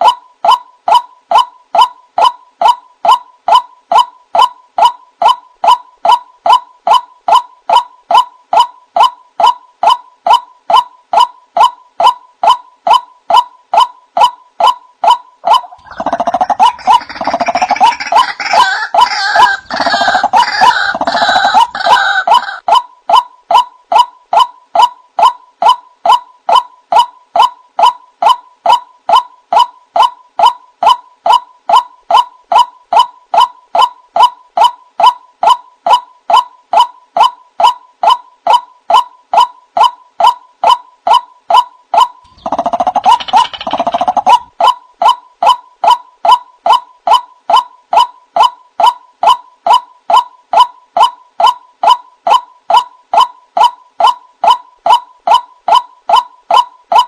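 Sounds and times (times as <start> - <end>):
bird calling repeated notes: 0.0 - 57.0.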